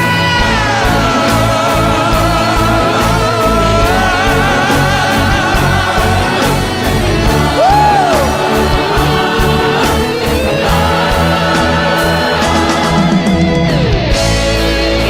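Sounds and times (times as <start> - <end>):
band with steady drum beat: 0.0 - 15.0
gospel singing: 0.0 - 15.0.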